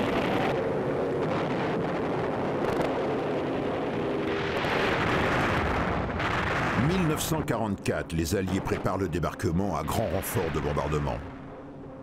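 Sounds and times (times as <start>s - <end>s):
piston bomber engines droning: 0.0s - 12.0s.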